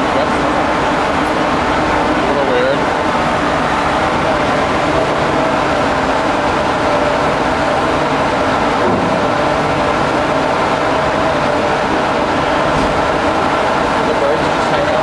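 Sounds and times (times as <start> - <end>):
ship machinery droning: 0.0 - 15.0.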